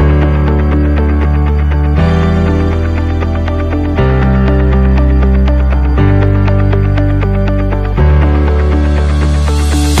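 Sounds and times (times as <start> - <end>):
held bass notes: 0.0 - 10.0.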